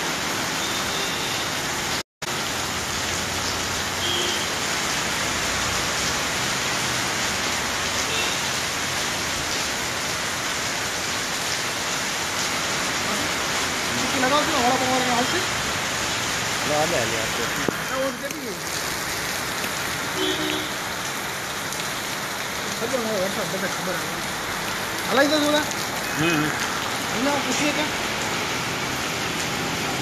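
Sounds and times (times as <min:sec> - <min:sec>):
heavy rain on pavement: 0:00.0 - 0:30.0.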